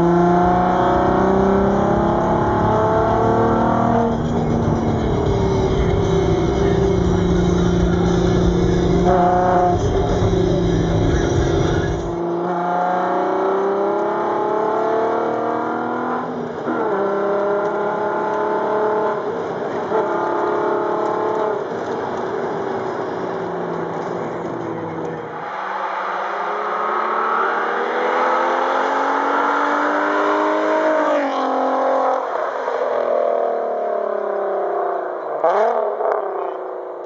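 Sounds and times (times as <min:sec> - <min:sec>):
car engine revving at full throttle: 0:00.0 - 0:37.0.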